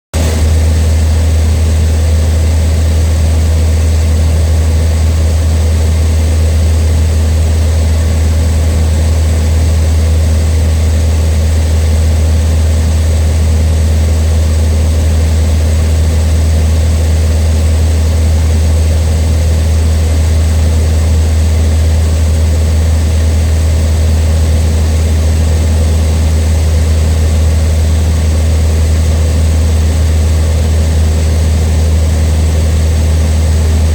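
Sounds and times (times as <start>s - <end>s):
propeller plane engine drone: 0.2s - 33.9s.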